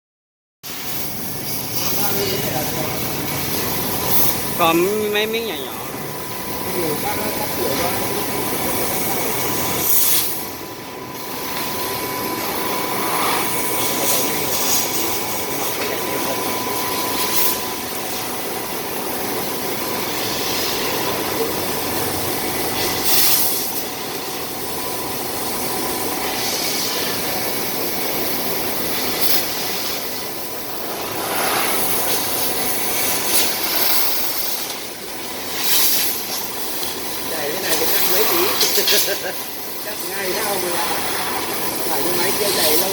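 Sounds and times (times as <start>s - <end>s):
faint machine whine: 0.7s - 42.9s
laser cutting machine hissing: 0.7s - 42.9s.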